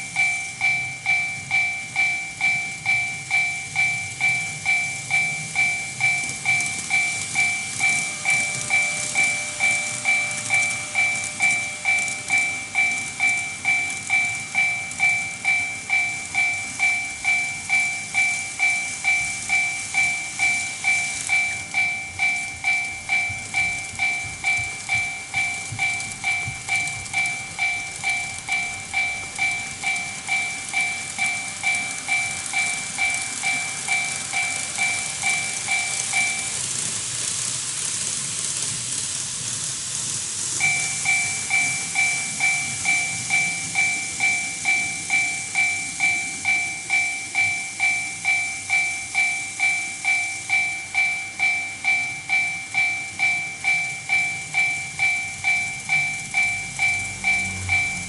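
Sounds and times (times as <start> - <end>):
two-tone electronic crossing bell: 0.0 - 37.0, 40.4 - 58.0
model trains running on track: 0.0 - 58.0.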